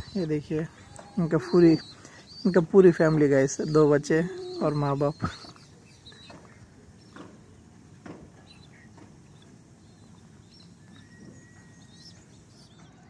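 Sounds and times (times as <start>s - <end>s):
high bird chirps: 0.0s - 7.3s, 8.4s - 13.0s.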